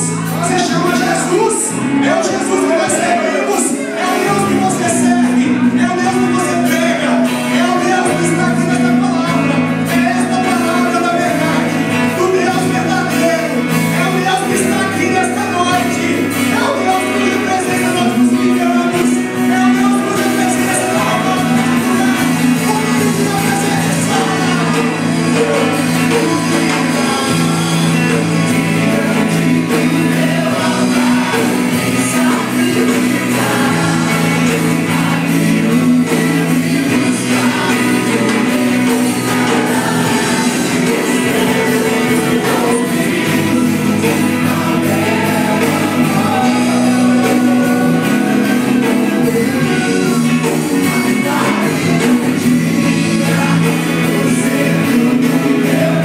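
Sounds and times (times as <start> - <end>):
group singing worship music: 0.0 - 56.0.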